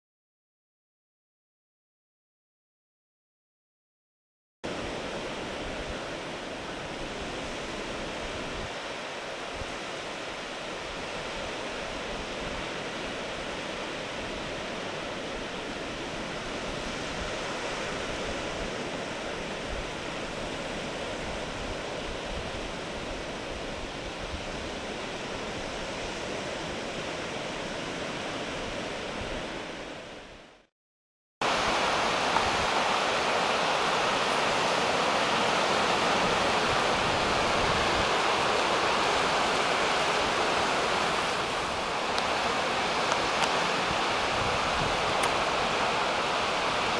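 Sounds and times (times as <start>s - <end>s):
waves washing on rocky shore: 4.7s - 30.3s, 31.4s - 46.9s.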